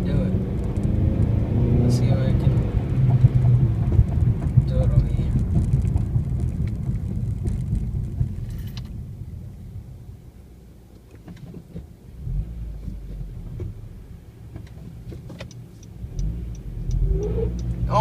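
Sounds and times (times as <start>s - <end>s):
car engine rumble from inside: 0.0s - 18.0s.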